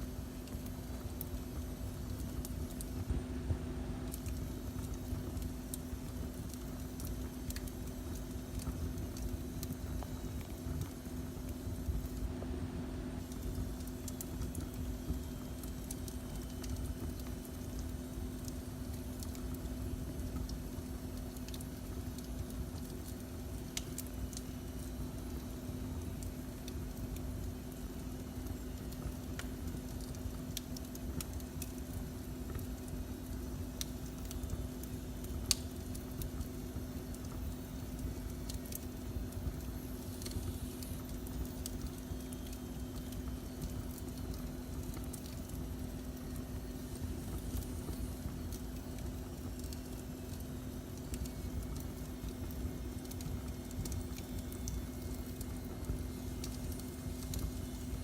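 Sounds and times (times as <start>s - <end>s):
low rumble and hum: 0.0s - 58.0s
wood fire crackling: 0.0s - 58.0s.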